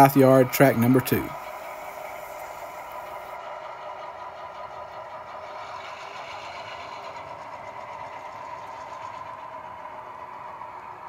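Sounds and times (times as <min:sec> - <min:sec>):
model train diesel engine sound: 0:00.0 - 0:11.0.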